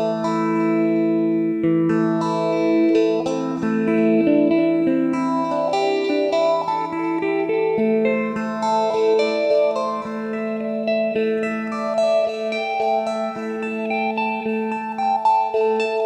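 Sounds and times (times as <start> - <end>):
electric lute plucked melody: 0.0 - 16.0.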